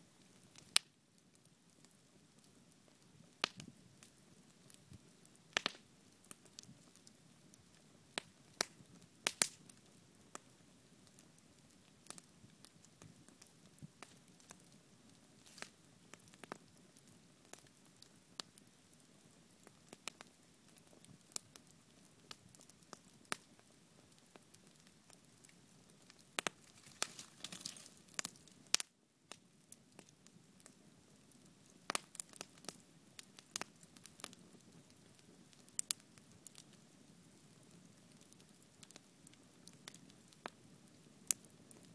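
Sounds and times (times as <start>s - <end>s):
bonfire crackling and popping: 0.0s - 41.9s
faint fire hiss: 0.0s - 41.9s.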